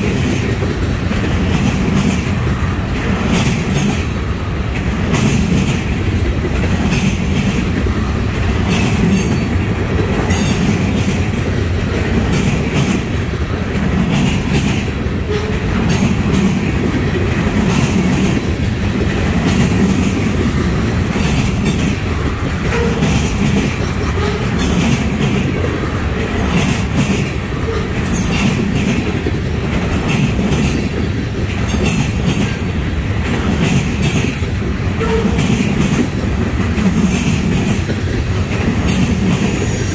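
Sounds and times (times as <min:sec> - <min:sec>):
steel wheels rumbling on rail: 0:00.0 - 0:39.9
wheels clicking over rail joints: 0:00.0 - 0:39.9.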